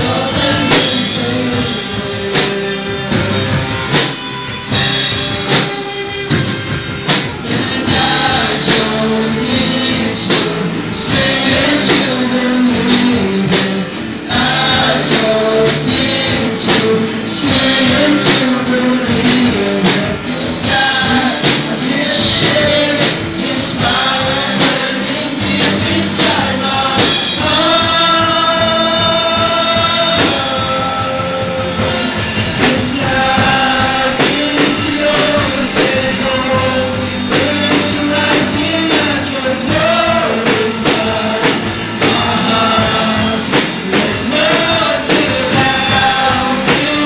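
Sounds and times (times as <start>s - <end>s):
people singing into microphones: 0.0s - 6.4s, 7.1s - 47.0s
live band playing: 0.0s - 47.0s.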